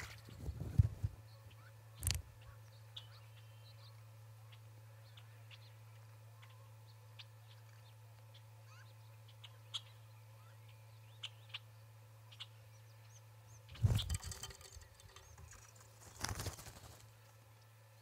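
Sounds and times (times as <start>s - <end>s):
low steady hum: 0.0s - 18.0s
small birds chipping: 0.0s - 18.0s.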